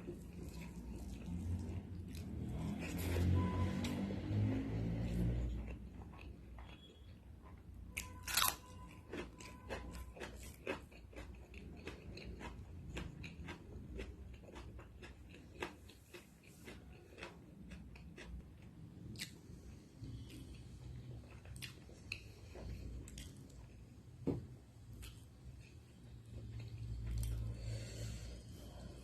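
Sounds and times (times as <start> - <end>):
person chewing food: 0.0 - 24.2, 24.8 - 29.0.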